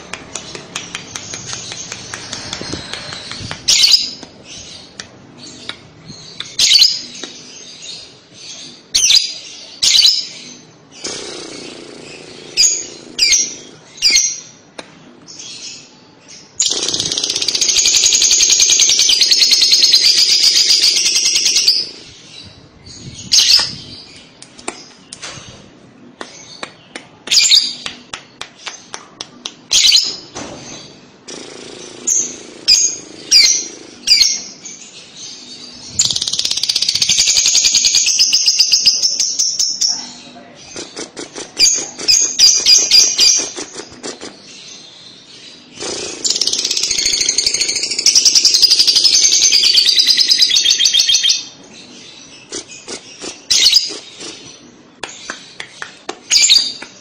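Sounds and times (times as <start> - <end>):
lovebird chirping and trilling: 0.5 - 14.5, 15.3 - 25.2, 29.7 - 31.0, 31.6 - 40.2, 41.6 - 54.6, 56.3 - 56.8.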